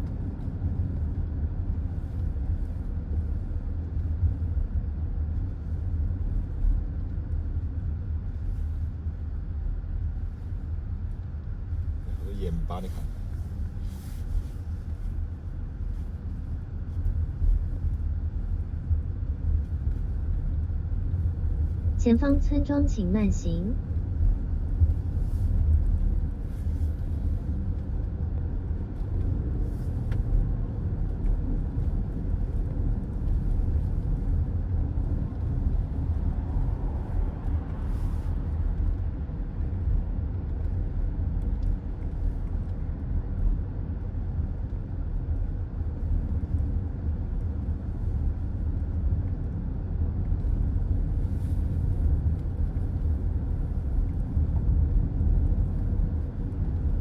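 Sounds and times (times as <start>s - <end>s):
car road noise inside cabin: 0.0s - 57.0s.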